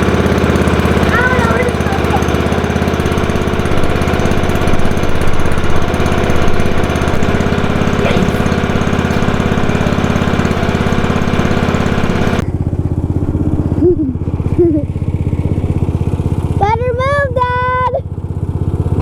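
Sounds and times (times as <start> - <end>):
small snowmobile engine running: 0.0 - 19.0.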